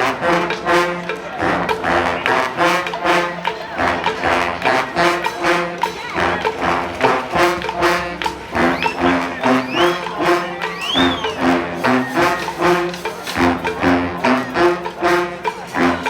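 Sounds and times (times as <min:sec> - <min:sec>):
drum strokes: 0:00.0 - 0:16.0
street band playing: 0:00.0 - 0:16.0.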